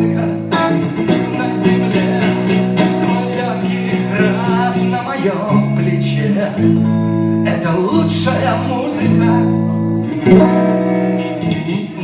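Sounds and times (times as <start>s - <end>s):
man singing: 0.0s - 10.8s, 11.8s - 12.0s
acoustic guitar: 0.0s - 12.0s.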